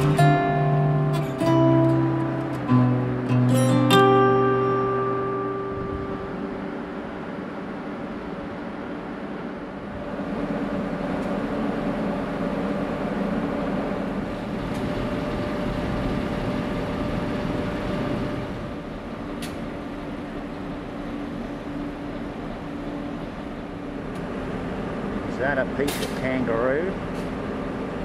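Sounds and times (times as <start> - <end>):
diesel locomotive droning hum: 0.0 - 28.0.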